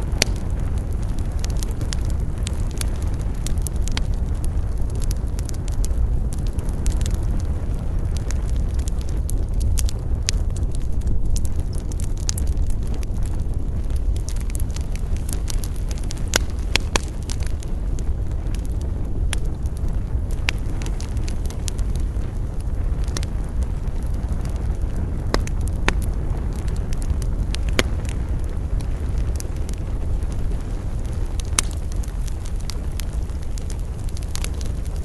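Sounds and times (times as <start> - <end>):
campfire crackling and popping: 0.0 - 35.0
low rumble: 0.0 - 35.0.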